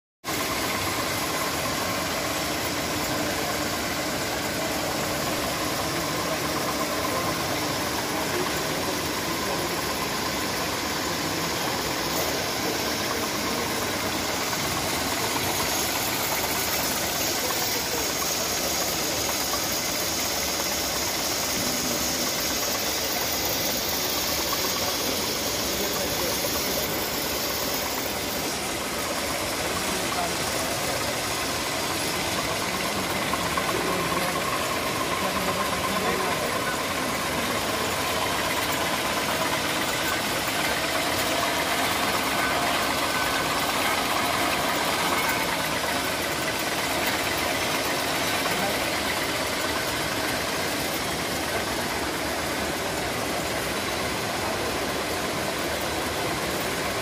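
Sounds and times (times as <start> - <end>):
dust extraction unit running: 0.2 - 57.0
tablet press machine running: 0.3 - 57.0.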